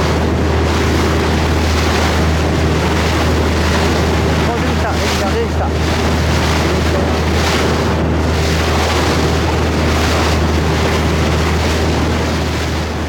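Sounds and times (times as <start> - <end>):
boat engine humming: 0.0 - 13.0
rushing sea: 0.0 - 13.0
wind buffeting microphone: 0.0 - 13.0.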